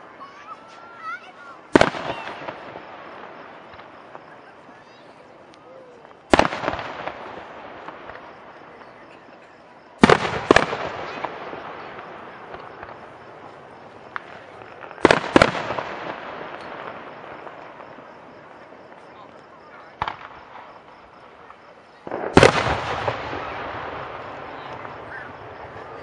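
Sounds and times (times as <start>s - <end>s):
fireworks bangs: 0.0s - 26.0s
fireworks rumble: 0.0s - 26.0s.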